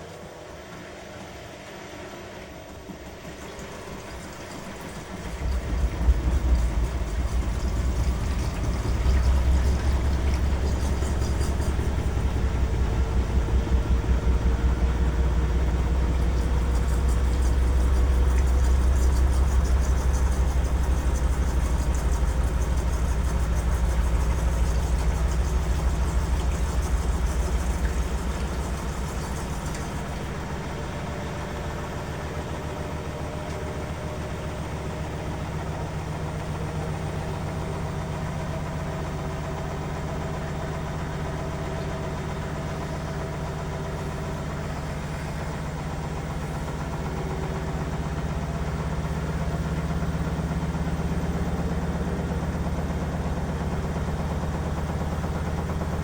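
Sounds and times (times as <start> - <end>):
faint motor whine: 0.0 - 56.0
washing machine drum rumbling: 2.8 - 56.0.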